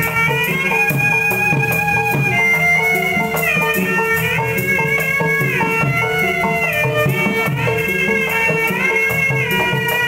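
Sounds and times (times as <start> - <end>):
repeating drum rhythm: 0.0 - 10.0
sliding melody: 0.0 - 10.0.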